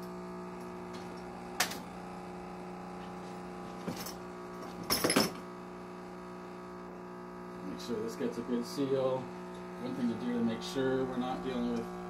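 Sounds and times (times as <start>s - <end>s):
electric hum: 0.0s - 12.0s.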